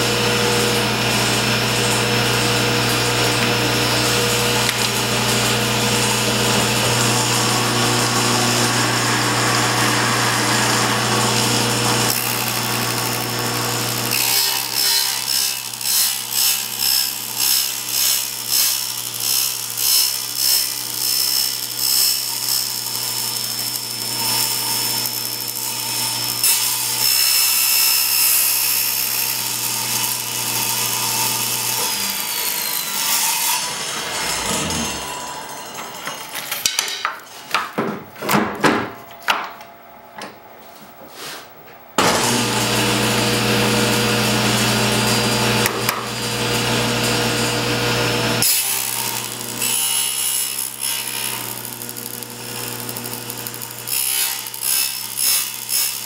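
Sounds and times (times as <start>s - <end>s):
table saw cutting plastic sheet: 0.0s - 37.9s, 42.0s - 56.0s.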